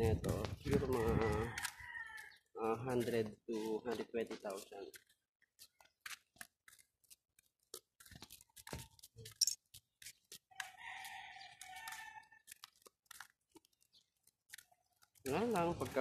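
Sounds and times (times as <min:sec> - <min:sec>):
footsteps on pavement: 0:00.0 - 0:16.0.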